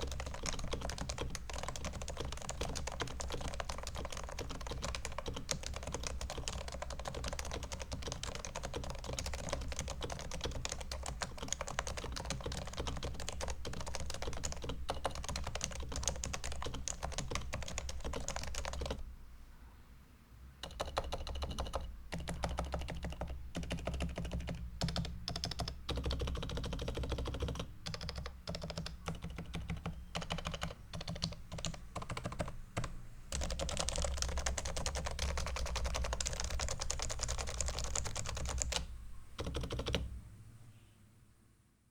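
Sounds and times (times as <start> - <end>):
keyboard typing: 0.0 - 19.0, 20.6 - 40.1.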